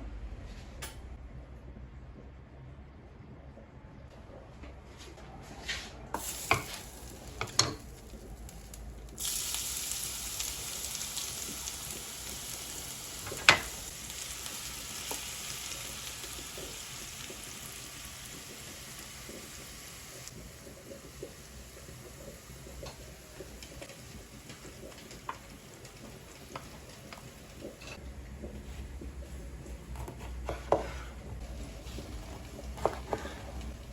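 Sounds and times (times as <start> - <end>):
onion sizzling in hot oil: 6.2 - 28.0, 28.6 - 33.9.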